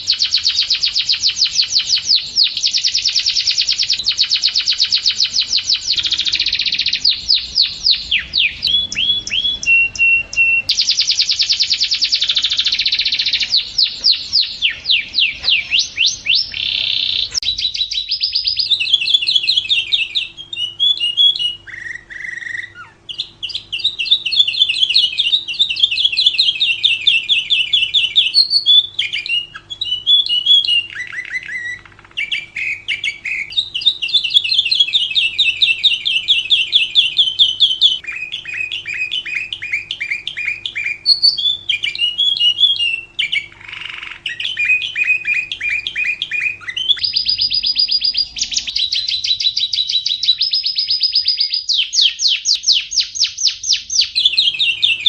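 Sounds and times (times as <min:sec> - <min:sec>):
faint steady hum: 0:00.0 - 0:55.0
lovebird shrill chirps: 0:00.0 - 0:55.0.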